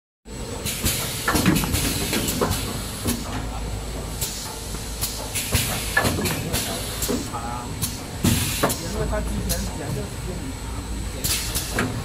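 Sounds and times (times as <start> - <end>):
packing machine humming: 0.3 - 12.0.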